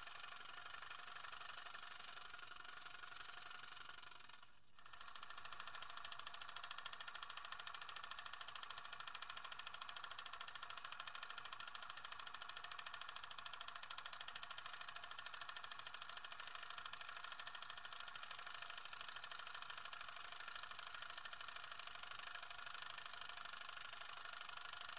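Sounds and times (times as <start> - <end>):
film projector clatter: 0.0 - 24.9.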